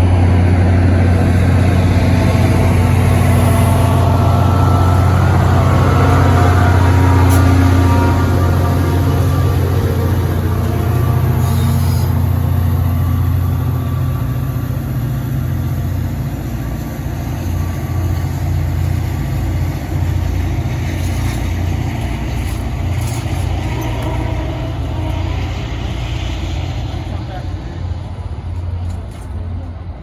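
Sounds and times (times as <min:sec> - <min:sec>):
diesel locomotive engine rumbling: 0:00.0 - 0:30.0.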